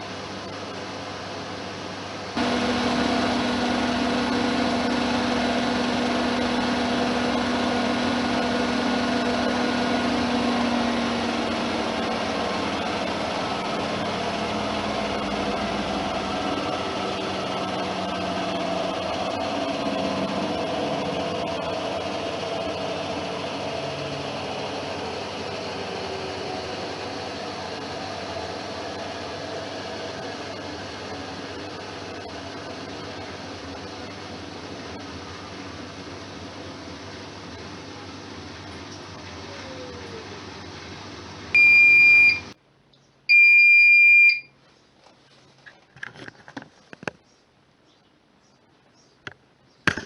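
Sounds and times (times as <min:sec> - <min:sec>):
washing machine spinning: 0:00.0 - 0:42.6.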